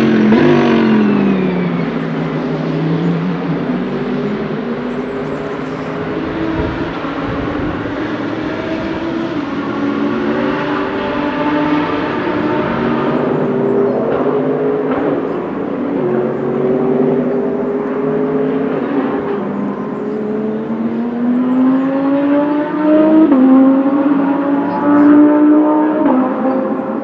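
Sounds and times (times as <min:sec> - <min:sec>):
race car engine accelerating: 0:00.0 - 0:27.0.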